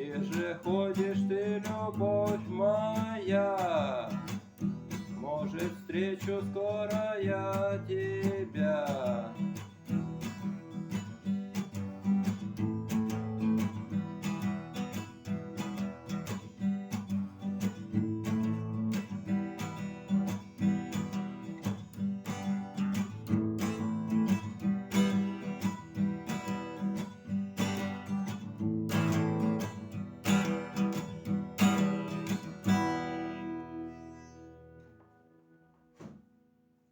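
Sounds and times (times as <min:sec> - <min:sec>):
acoustic guitar strumming: 0:00.0 - 0:36.6.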